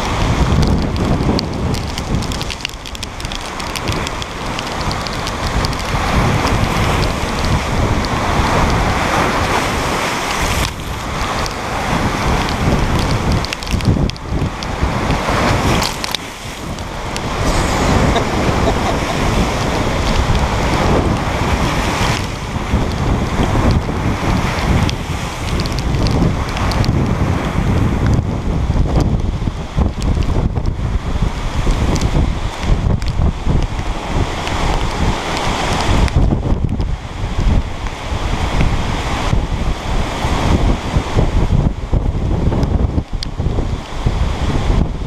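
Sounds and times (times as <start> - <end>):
waves breaking on rocks: 0.0 - 44.8
wind buffeting microphone: 0.0 - 45.0.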